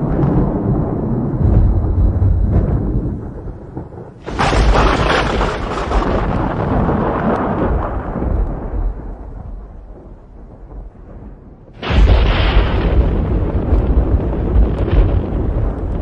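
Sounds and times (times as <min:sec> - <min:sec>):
sharp thunderclap: 0:00.0 - 0:16.0
thunder rumbling: 0:00.0 - 0:16.0.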